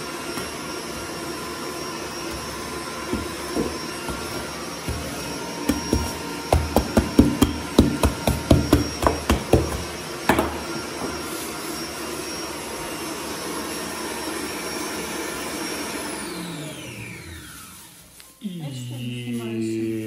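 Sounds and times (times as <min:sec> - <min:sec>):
kitchen appliance motor running: 0:00.0 - 0:18.0.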